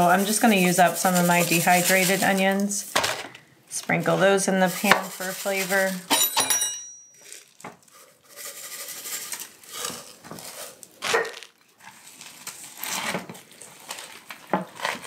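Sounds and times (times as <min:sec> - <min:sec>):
plastic rustling and crinkling: 0:00.0 - 0:06.1, 0:07.1 - 0:15.0.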